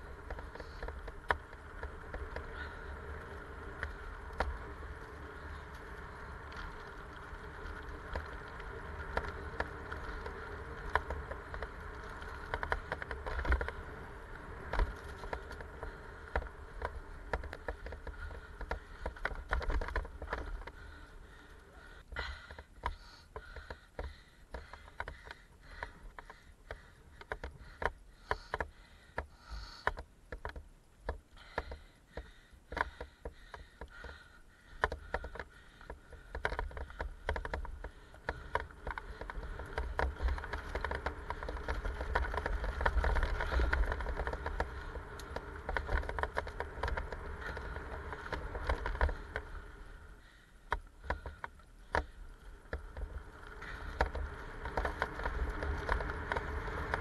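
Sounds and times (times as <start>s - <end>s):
bike rattles and clicks: 0.0s - 57.0s
bike tyres rolling over dirt: 0.0s - 57.0s.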